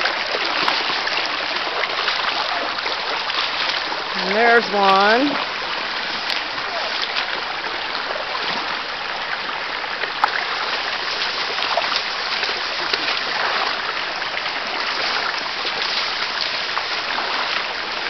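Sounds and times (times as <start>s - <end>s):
stream rushing over stones: 0.0s - 18.0s.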